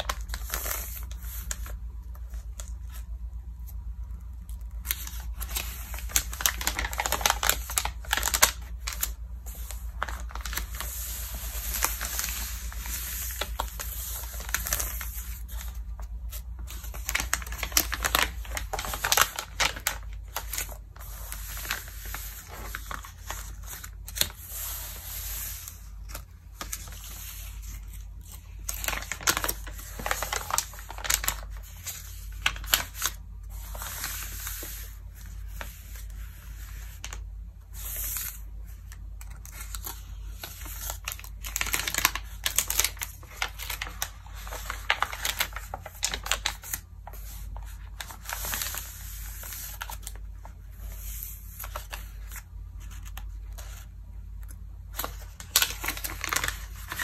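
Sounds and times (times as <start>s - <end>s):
page turning: 0.0s - 37.2s, 37.8s - 53.9s, 54.9s - 57.0s
magazine pages crinkling: 0.0s - 57.0s.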